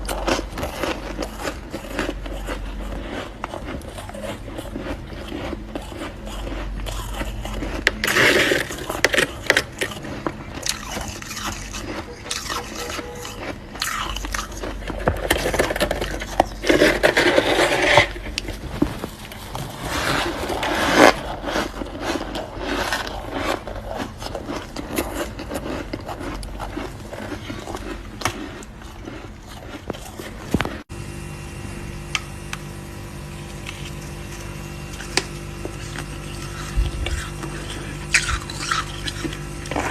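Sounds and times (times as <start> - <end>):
frost crunching and scraping: 0.0 - 39.9
steady low hum: 0.0 - 39.9.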